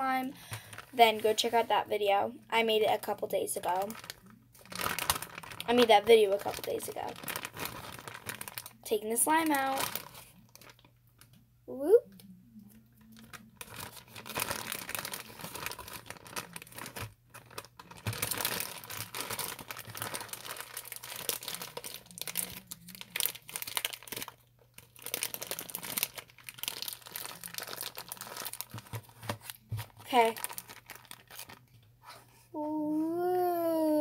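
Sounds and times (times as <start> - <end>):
plastic bag crinkling: 0.1 - 1.9, 2.5 - 11.4, 12.9 - 31.7.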